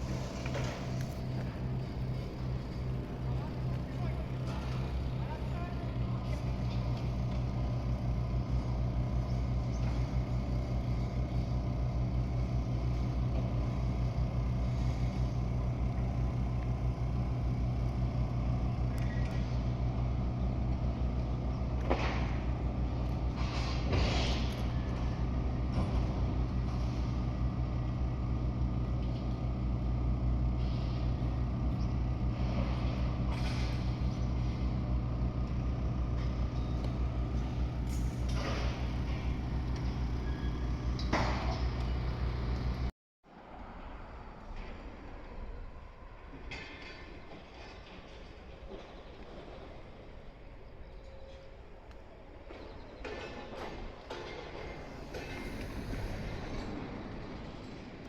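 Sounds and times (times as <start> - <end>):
low engine drone: 0.0 - 46.8, 49.0 - 58.0.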